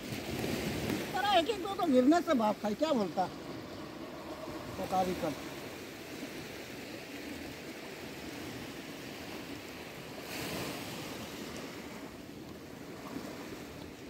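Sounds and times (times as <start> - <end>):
sea surf washing on beach: 0.0 - 14.0.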